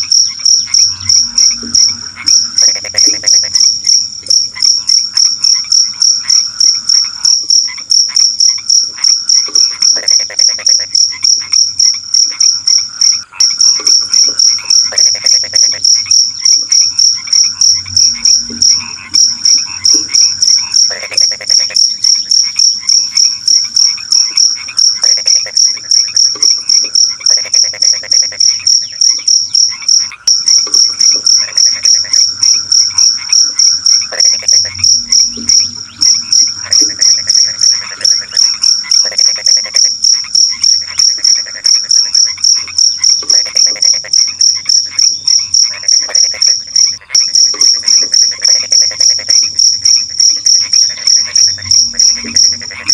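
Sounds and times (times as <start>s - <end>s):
cricket chirping: 0.0s - 52.9s
frogs croaking: 0.0s - 52.9s.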